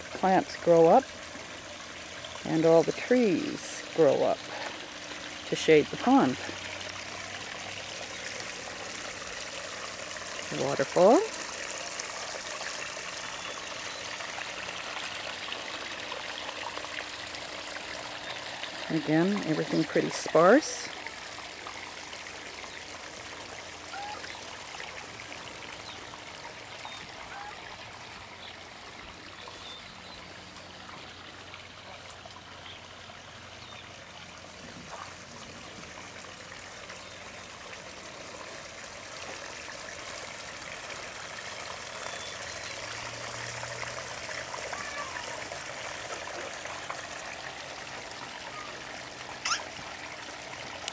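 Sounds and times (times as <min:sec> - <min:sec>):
small waterfall trickling: 0:00.0 - 0:50.9.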